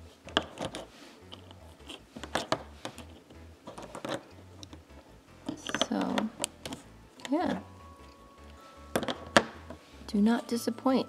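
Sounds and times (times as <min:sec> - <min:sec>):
plastic pens clicking and tapping: 0:00.3 - 0:09.8.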